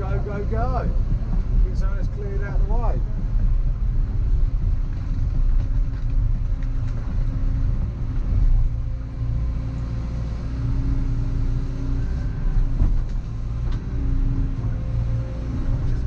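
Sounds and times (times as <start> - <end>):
excavator diesel engine under load: 0.0 - 16.0.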